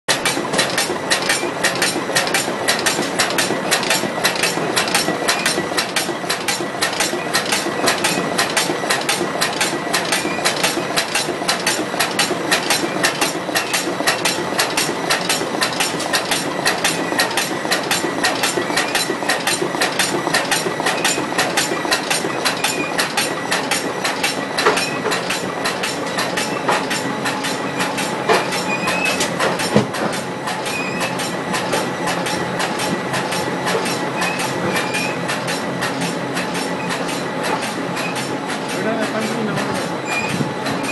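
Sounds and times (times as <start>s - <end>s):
folder-gluer machine clattering: 0.1s - 40.9s.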